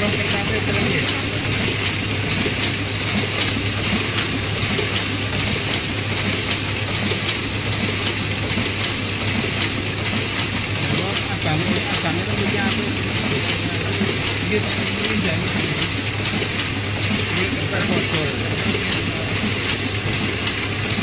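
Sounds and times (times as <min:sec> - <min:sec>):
printing press running: 0:00.0 - 0:21.0.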